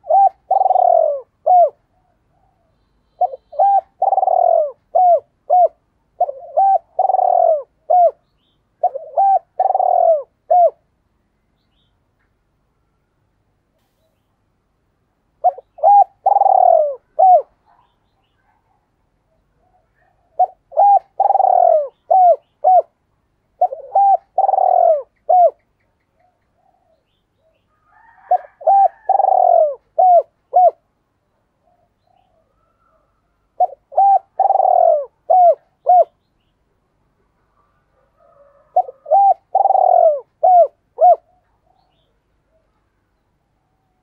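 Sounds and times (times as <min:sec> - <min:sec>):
dove cooing: 0:00.0 - 0:10.9, 0:15.4 - 0:30.9, 0:31.6 - 0:36.2, 0:37.6 - 0:42.8.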